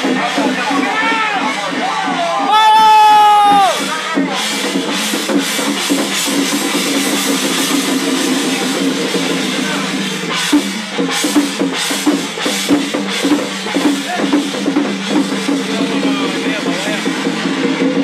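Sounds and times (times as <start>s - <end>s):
temple drum and percussion: 0.0s - 18.0s.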